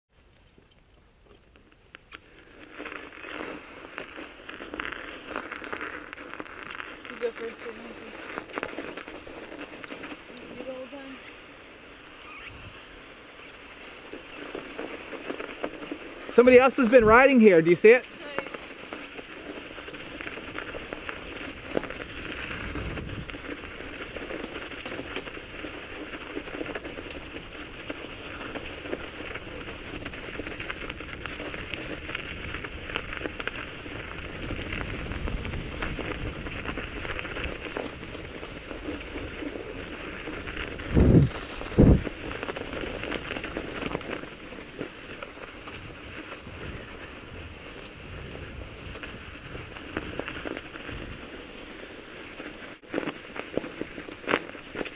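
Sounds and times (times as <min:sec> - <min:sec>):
bike tyres rumbling on snow: 0:00.2 - 0:54.9.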